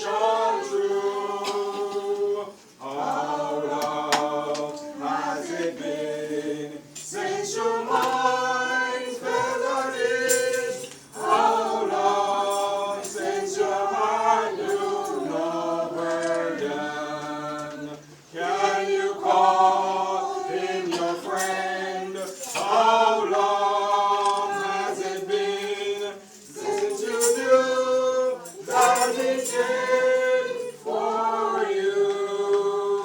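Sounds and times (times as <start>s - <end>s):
church choir singing: 0.0s - 33.0s.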